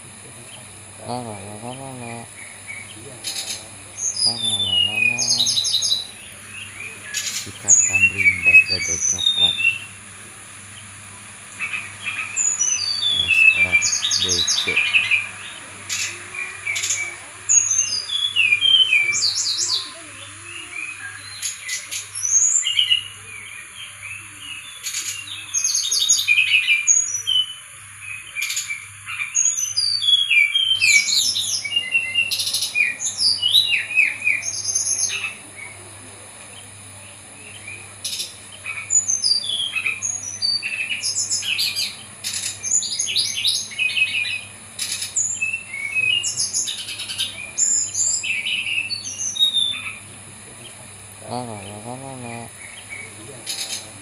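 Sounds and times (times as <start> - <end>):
bird singing chirps and trills: 0.4 - 35.9, 36.5 - 54.0.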